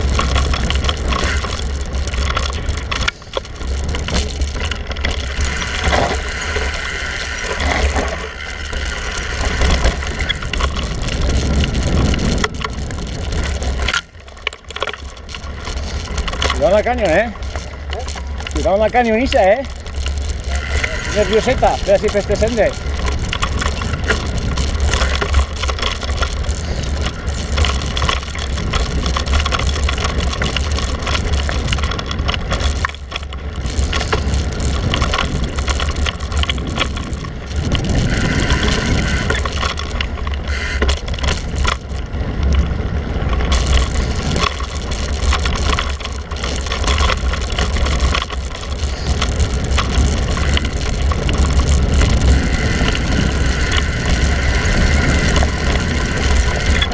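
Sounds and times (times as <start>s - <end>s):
bike rattling over bumps: 0.0s - 56.9s
bike tyres on loose gravel: 0.0s - 56.9s
wind rumble on microphone: 0.0s - 56.9s.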